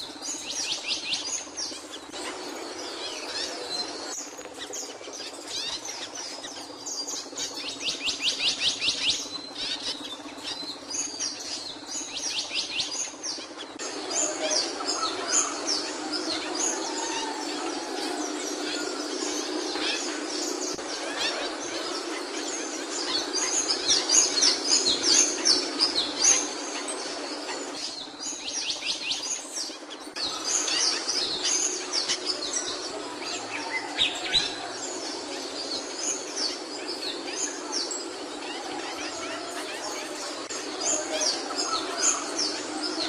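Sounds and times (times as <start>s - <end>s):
songbird chirping: 0.0s - 43.0s
steady background noise: 0.0s - 43.0s.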